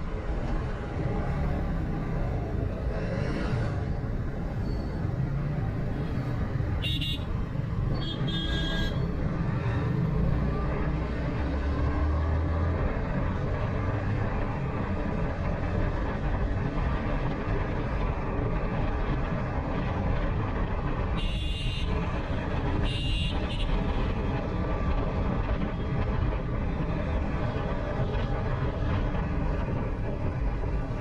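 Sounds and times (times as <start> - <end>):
road and wind noise: 0.0 - 31.0.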